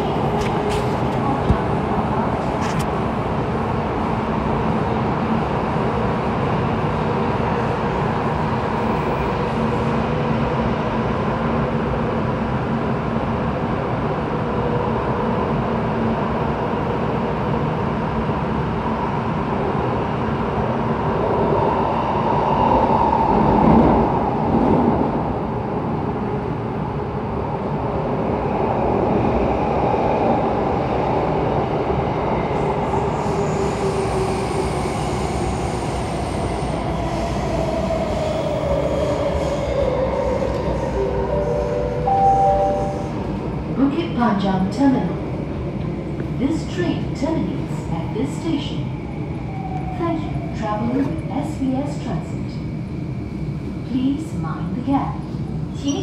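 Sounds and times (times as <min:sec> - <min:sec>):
metro train rumbling: 0:00.0 - 0:56.0.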